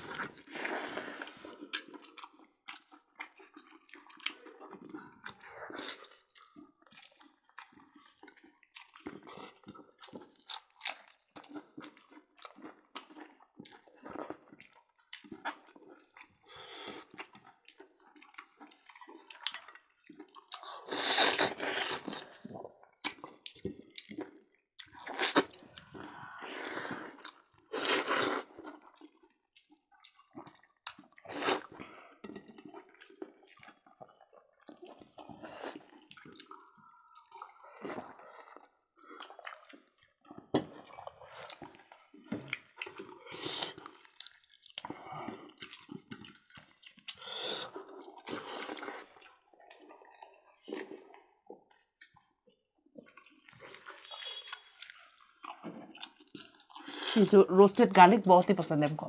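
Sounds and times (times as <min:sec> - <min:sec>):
people chewing and lip smacking: 0:00.0 - 0:59.0.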